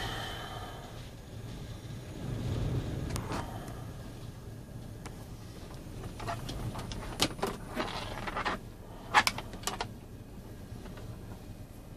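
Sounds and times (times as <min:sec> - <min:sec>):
low rumble inside a car: 0:00.0 - 0:11.9.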